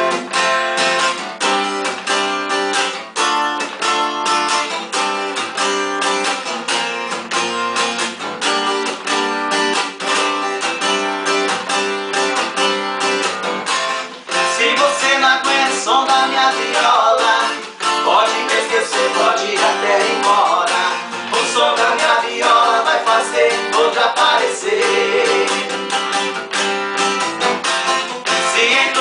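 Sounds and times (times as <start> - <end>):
plucked acoustic string riff: 0.0 - 29.0.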